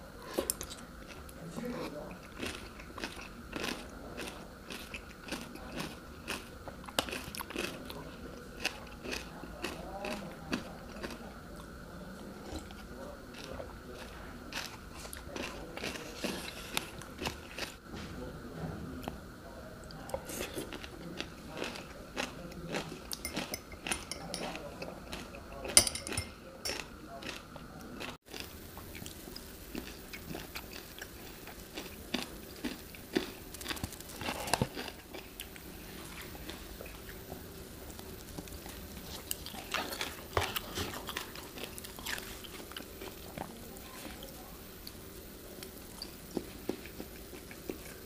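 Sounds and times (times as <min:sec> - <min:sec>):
person chewing noodles: 0:00.2 - 0:08.0, 0:08.6 - 0:11.7, 0:12.4 - 0:17.8, 0:20.1 - 0:24.3, 0:26.7 - 0:27.4, 0:28.0 - 0:45.0, 0:45.6 - 0:48.0.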